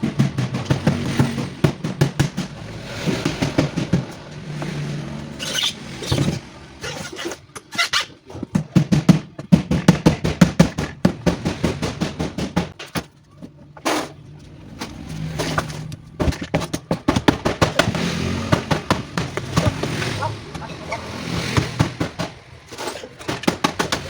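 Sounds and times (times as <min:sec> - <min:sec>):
sharp knocks and clatter: 0:00.0 - 0:24.0.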